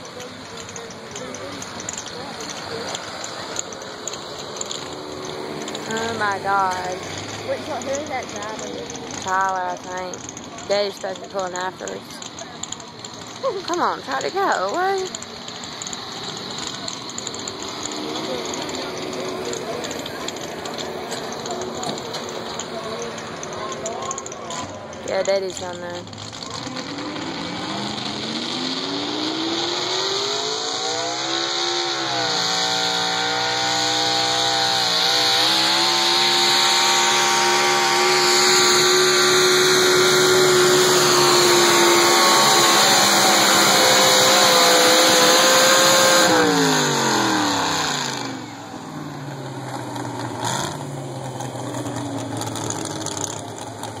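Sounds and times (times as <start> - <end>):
truck engine at full throttle: 0.0 - 54.0.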